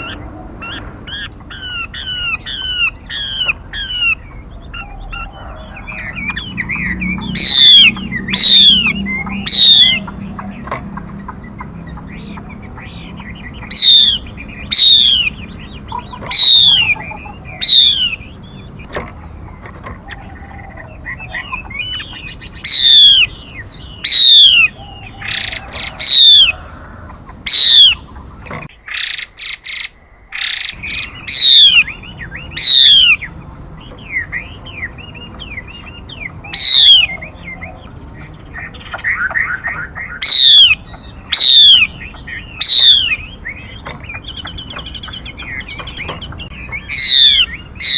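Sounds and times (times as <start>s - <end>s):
bird whistling calls: 0.0s - 18.9s, 19.5s - 47.9s
soft bird chirps: 0.0s - 47.9s.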